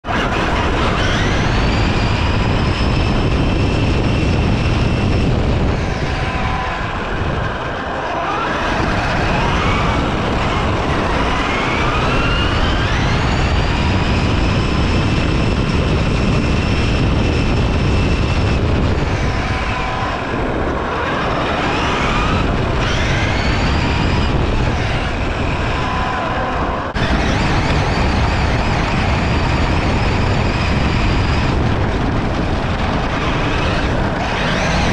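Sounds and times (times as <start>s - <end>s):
low rumble of wheels and wind: 0.0s - 34.9s
rc truck motor whining: 0.1s - 34.9s.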